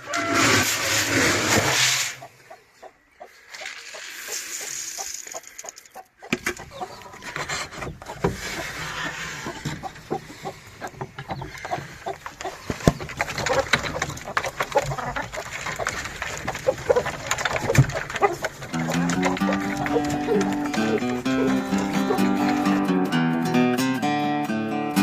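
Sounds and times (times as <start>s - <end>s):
chickens clucking and peeping: 1.7s - 22.9s.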